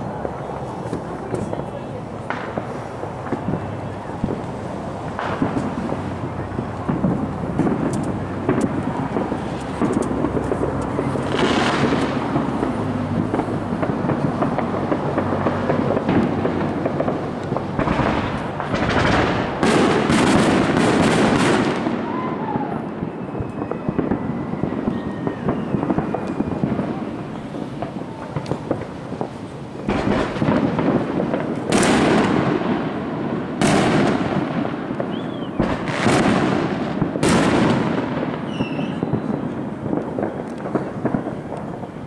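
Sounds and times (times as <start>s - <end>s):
fireworks bangs and crackling: 0.0s - 42.0s.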